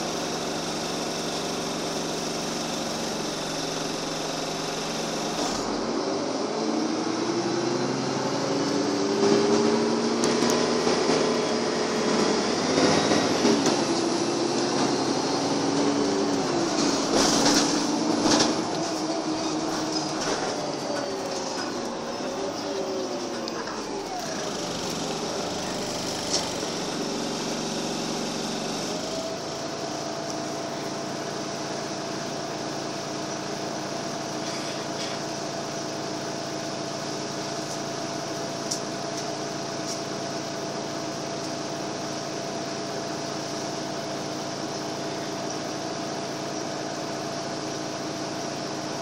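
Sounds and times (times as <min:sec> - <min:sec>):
bus diesel engine idling: 0:00.0 - 0:49.0.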